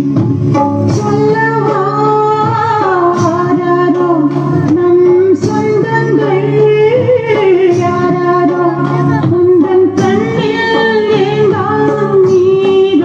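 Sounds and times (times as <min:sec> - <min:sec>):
musical accompaniment: 0:00.0 - 0:13.0
woman singing: 0:00.6 - 0:13.0.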